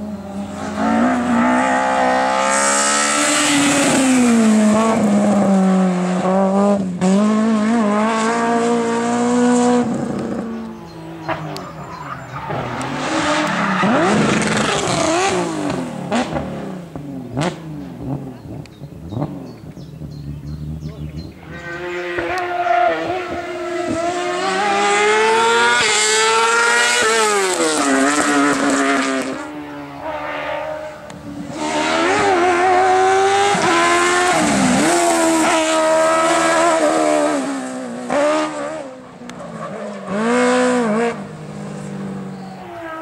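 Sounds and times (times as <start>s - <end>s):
race car engine accelerating: 0.0s - 43.0s.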